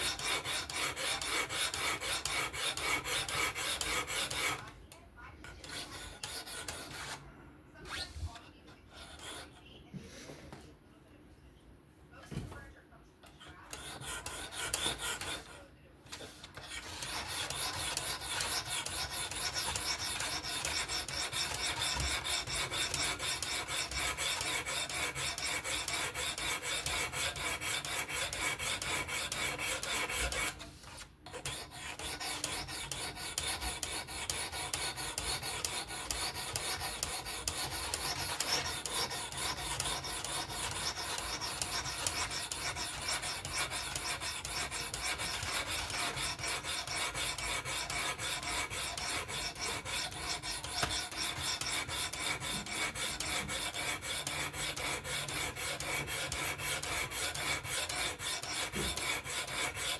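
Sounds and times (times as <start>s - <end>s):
sharpening stone rasping on blade: 0.0s - 4.7s, 5.6s - 7.2s, 13.7s - 15.6s, 16.6s - 30.6s, 31.3s - 59.9s.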